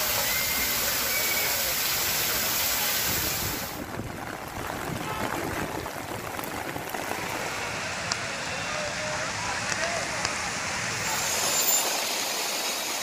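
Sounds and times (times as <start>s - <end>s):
running water: 0.0s - 8.0s, 10.3s - 13.0s
heavy rain: 0.0s - 13.0s.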